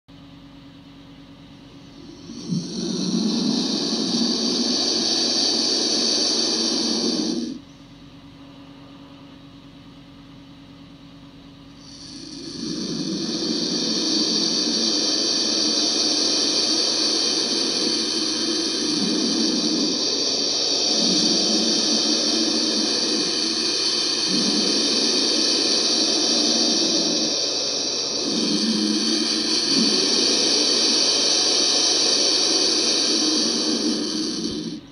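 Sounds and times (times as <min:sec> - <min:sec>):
vulture hissing: 0:01.7 - 0:07.6, 0:11.8 - 0:34.9.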